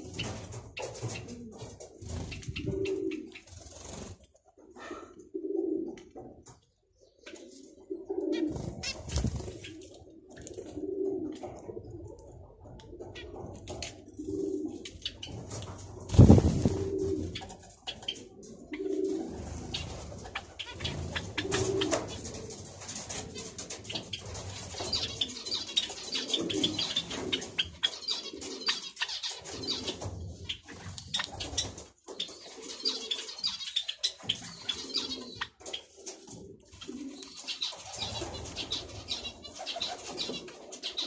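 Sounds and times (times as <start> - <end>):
doves cooing: 0.0 - 6.6, 7.2 - 41.0.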